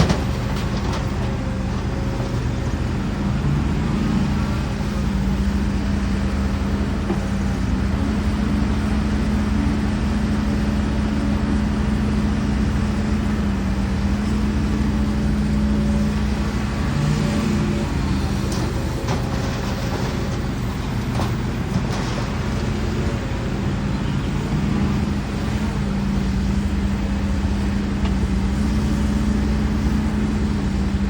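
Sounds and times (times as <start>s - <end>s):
diesel machinery droning: 0.0s - 31.0s.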